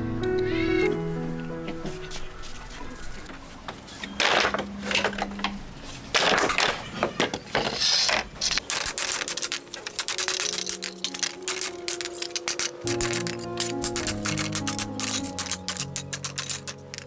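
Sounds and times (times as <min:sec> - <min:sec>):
wooden boards scraping and clattering: 0:03.3 - 0:17.0.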